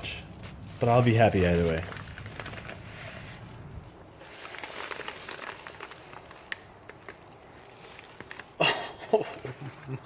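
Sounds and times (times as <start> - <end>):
paper mailer and plastic rustling: 0.0 - 8.6.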